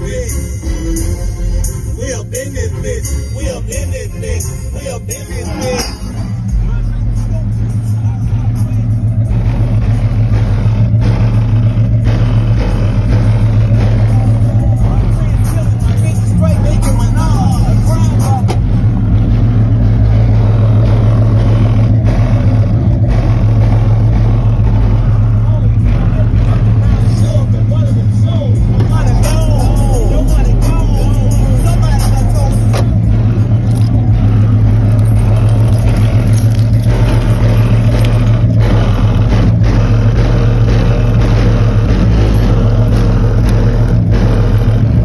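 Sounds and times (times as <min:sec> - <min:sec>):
subwoofer playing deep bass: 0:00.0 - 0:45.0.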